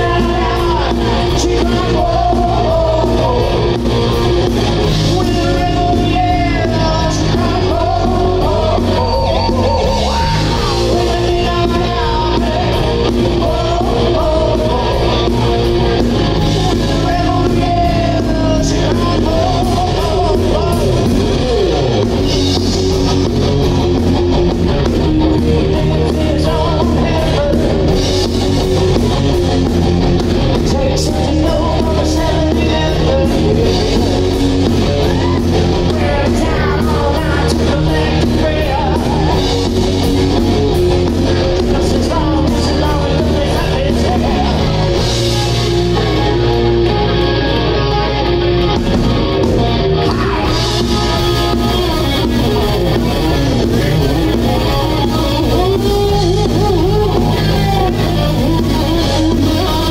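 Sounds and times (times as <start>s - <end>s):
drum kit: 0.0s - 59.9s
electric guitars: 0.0s - 59.9s
lead singer singing: 0.0s - 59.9s.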